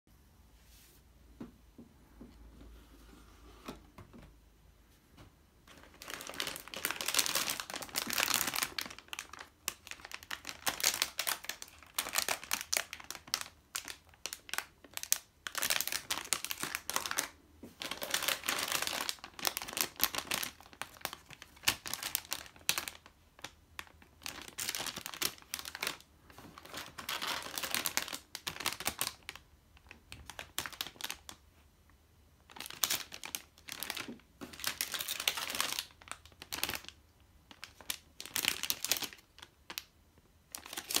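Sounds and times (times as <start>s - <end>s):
plastic bags crinkling: 5.6s - 31.4s, 32.5s - 39.9s, 40.5s - 41.0s.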